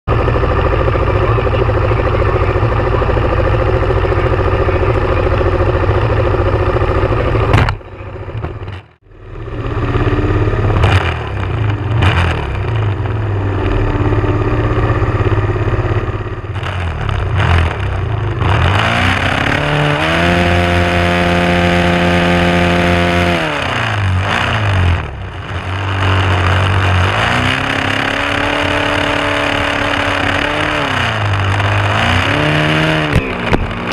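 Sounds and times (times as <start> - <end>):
loud steady engine noise: 0.1 - 33.9
motorcycle engine revving: 0.1 - 33.9.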